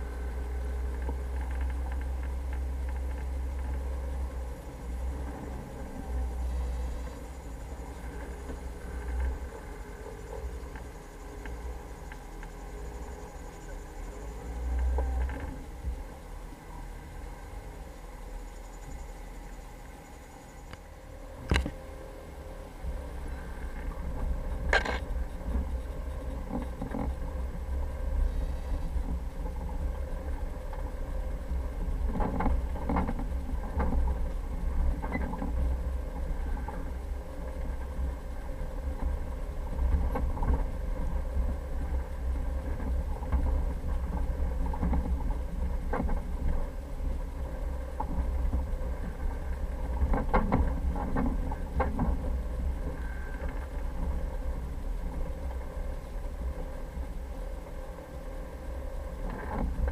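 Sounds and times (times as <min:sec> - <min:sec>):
vehicle engine rumble: 0:00.0 - 0:59.9.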